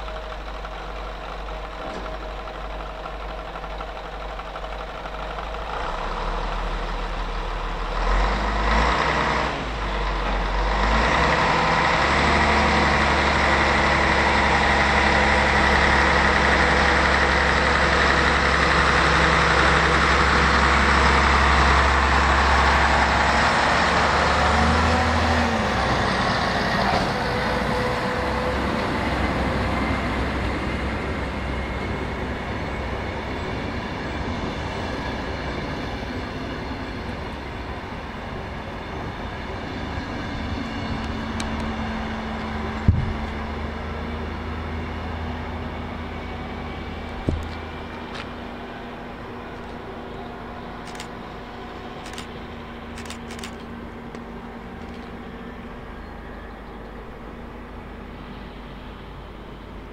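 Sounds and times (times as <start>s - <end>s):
train wheels rolling on rails: 0.0s - 55.8s
diesel engine pulling away: 0.0s - 59.9s.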